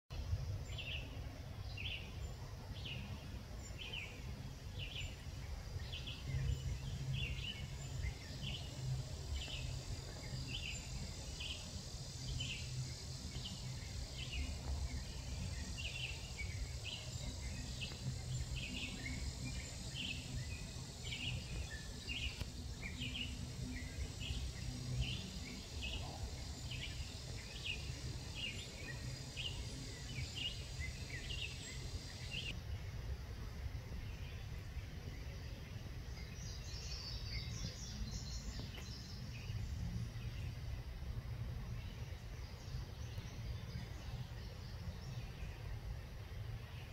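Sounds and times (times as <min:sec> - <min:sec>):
low ambient rumble: 0:00.1 - 0:46.9.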